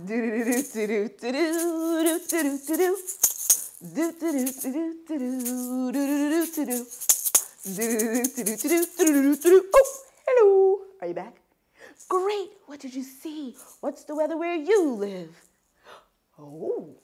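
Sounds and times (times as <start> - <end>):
maracas shaking: 0.0 - 10.4, 11.9 - 17.0.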